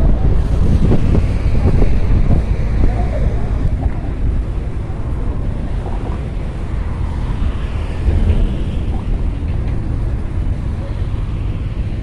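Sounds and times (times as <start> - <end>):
ferry engine drone: 0.0 - 12.0
water wash from ferry: 0.0 - 12.0
wind on microphone: 0.0 - 12.0.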